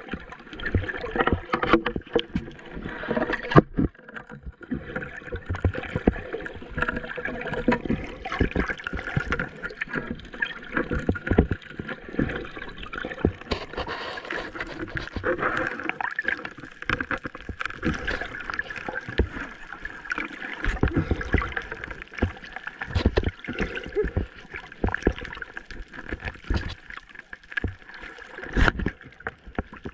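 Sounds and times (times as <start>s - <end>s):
muffled underwater rushing: 0.0s - 29.9s
small underwater clicks: 0.0s - 29.9s.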